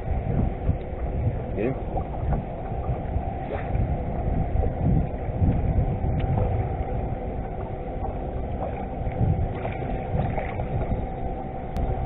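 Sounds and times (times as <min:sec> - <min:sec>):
boat motor humming: 0:00.0 - 0:12.0
low uneven rumble: 0:00.0 - 0:12.0.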